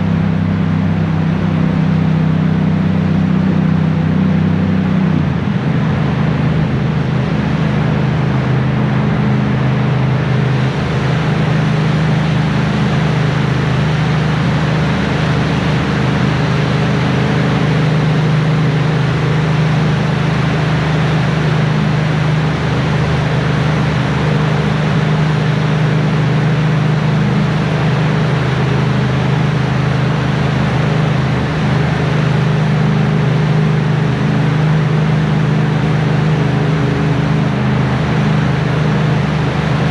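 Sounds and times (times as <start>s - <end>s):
motorcycle engine cruising: 0.0s - 39.9s
wet tyres on road: 0.0s - 39.9s.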